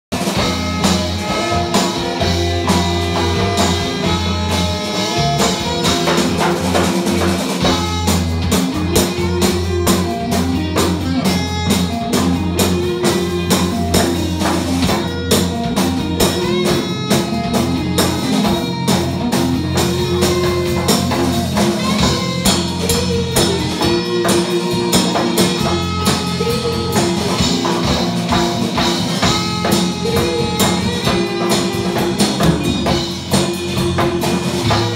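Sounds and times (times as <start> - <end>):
drums and percussion: 0.1 - 34.9
electric guitars: 0.1 - 34.9.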